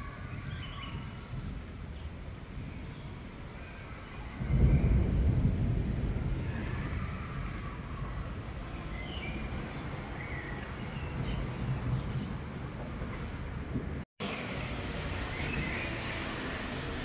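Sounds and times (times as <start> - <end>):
rolling thunder: 0.0 - 14.0.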